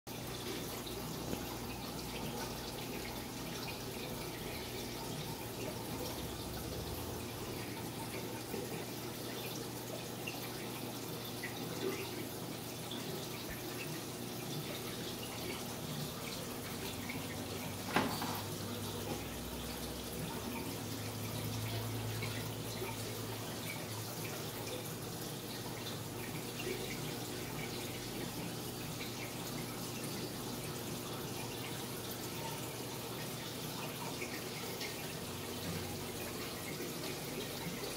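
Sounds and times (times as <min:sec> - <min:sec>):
aquarium water trickling: 0:00.1 - 0:37.9.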